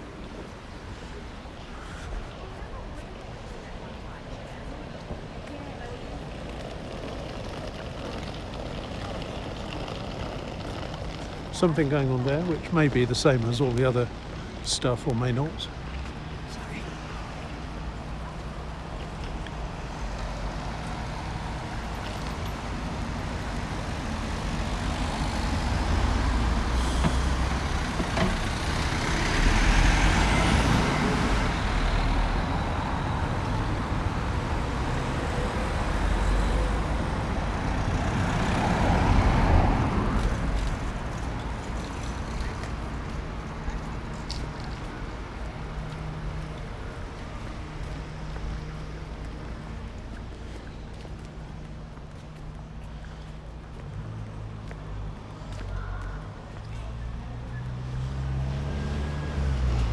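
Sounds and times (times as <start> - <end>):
vehicles passing close by: 0.0 - 59.9.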